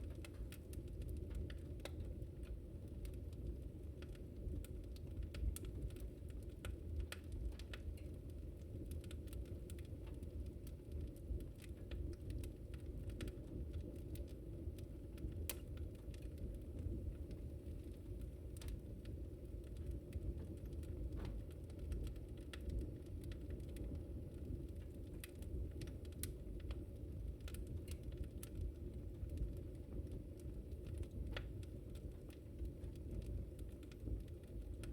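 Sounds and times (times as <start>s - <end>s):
low rumble of burning: 0.0s - 34.9s
wood fire crackling and popping: 0.0s - 34.9s.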